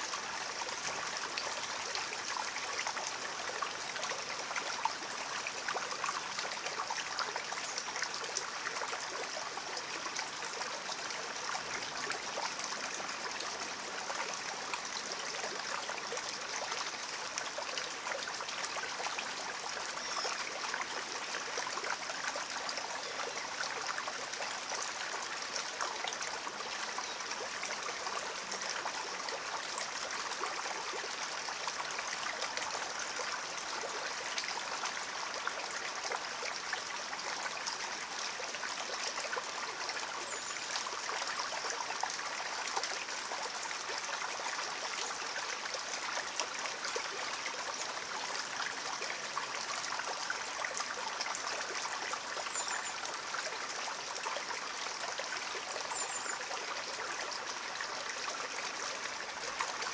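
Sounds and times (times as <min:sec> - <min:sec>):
stream water over stones: 0:00.0 - 0:59.9.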